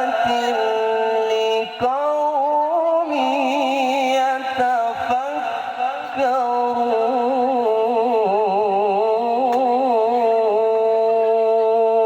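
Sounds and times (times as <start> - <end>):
person reciting melodically: 0.0 - 12.0.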